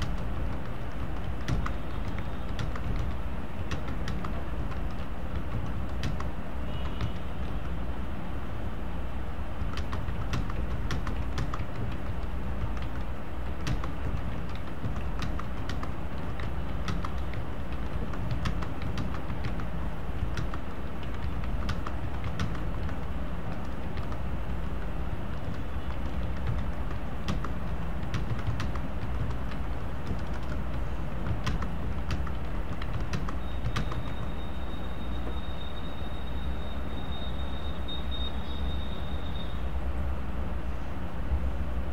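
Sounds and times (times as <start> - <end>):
computer keyboard keys clicking: 0.0 - 7.9, 9.5 - 35.4
steady low hum: 0.0 - 41.9.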